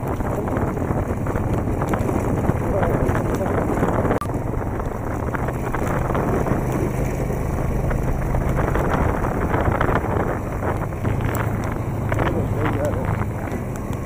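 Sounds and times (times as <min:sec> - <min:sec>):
low engine hum: 0:00.0 - 0:14.0
wind rushing over microphone: 0:00.0 - 0:14.0.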